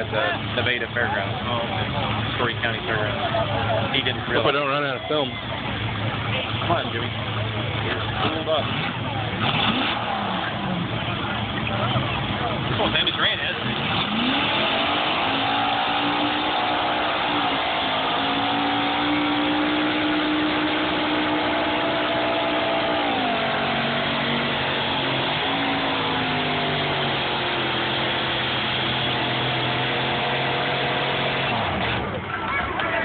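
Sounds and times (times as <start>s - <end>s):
tractor engine at full throttle: 0.0s - 33.0s.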